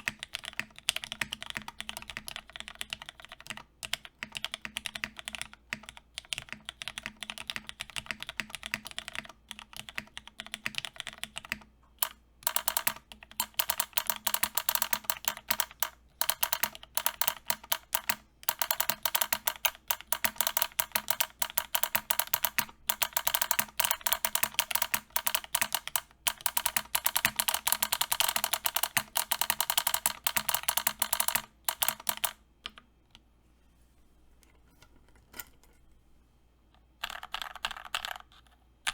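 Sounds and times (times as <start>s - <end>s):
mechanical keyboard typing: 0.0s - 32.9s, 37.0s - 38.9s.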